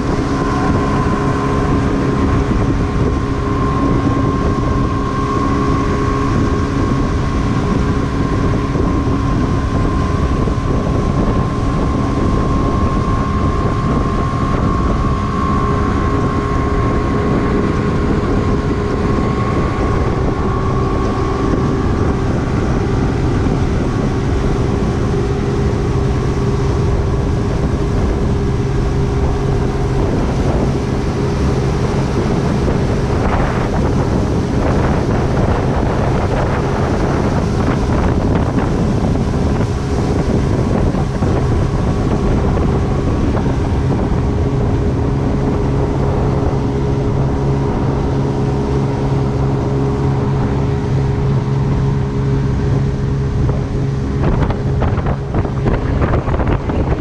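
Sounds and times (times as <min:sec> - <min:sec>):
outboard engines droning: 0:00.0 - 0:57.0
water rushing from wake: 0:00.0 - 0:57.0
wind buffeting microphone: 0:00.0 - 0:57.0.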